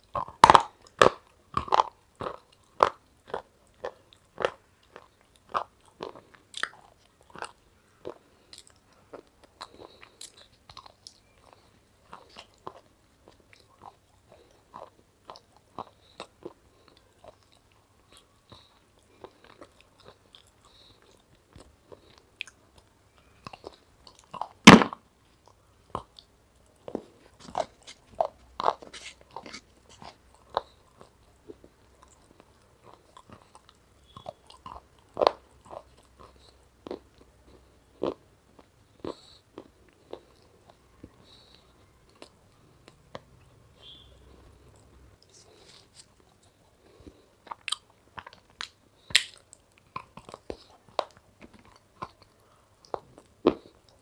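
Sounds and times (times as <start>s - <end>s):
chewing: 0.0s - 24.6s, 25.3s - 54.0s
crunching frozen ice cream: 0.1s - 43.2s, 43.8s - 54.0s.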